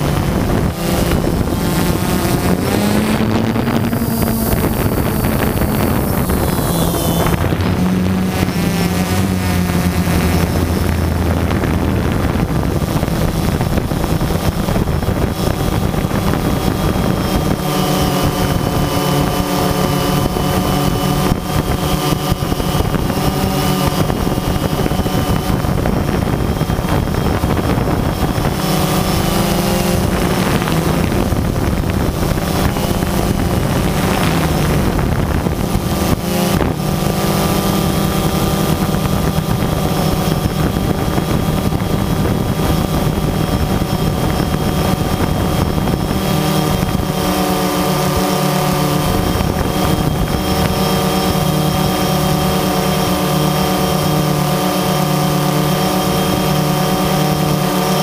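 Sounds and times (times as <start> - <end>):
drone motors whining: 0.0 - 58.0
wind noise on microphone: 0.0 - 58.0.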